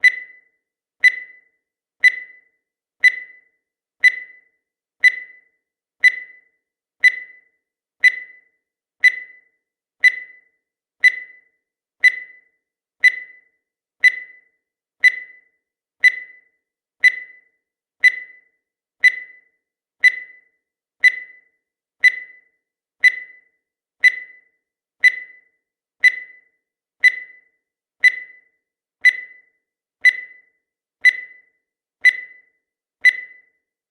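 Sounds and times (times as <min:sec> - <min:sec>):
short high timer beeps: 0:00.0 - 0:33.5.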